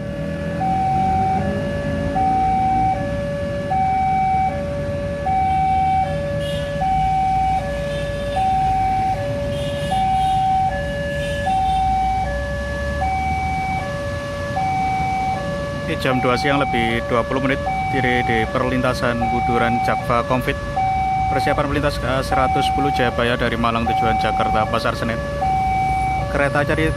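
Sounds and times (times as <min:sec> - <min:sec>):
low road traffic rumble: 0:00.0 - 0:26.9.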